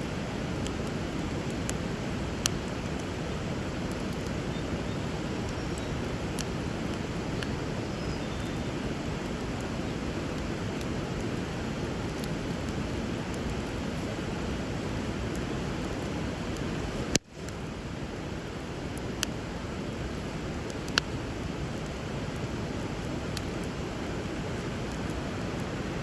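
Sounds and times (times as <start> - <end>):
river water flowing: 0.0 - 26.0
wood fire popping and crackling: 0.1 - 26.0.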